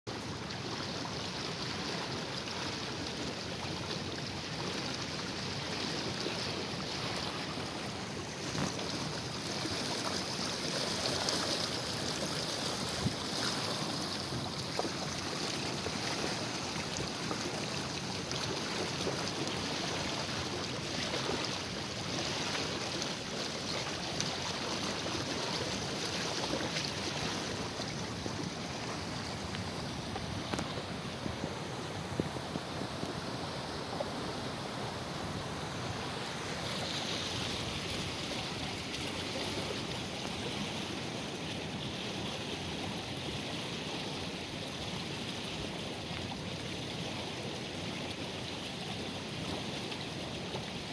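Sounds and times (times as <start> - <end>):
water rushing in canal: 0.1 - 50.9.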